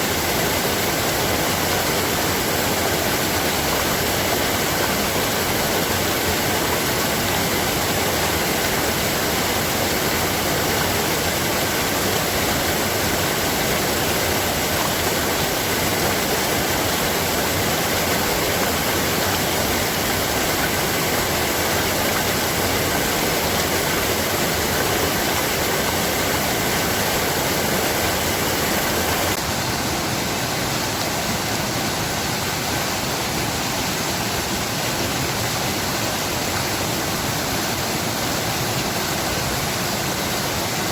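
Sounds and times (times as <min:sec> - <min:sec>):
flowing water rushing: 0:00.0 - 0:40.9.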